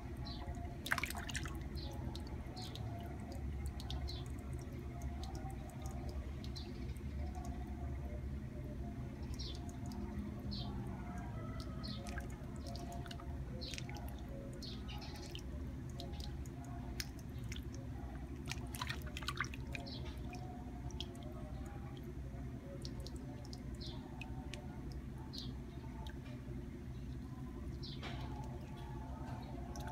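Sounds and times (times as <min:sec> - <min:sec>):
water splashing in a basin: 0:00.0 - 0:08.0, 0:09.2 - 0:26.2
low background rumble: 0:00.0 - 0:29.9.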